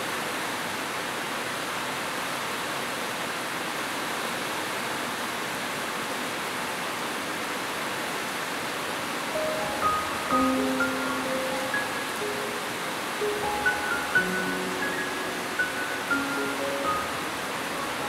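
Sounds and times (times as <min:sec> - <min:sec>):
heavy rain on metal roofs: 0:00.0 - 0:18.0.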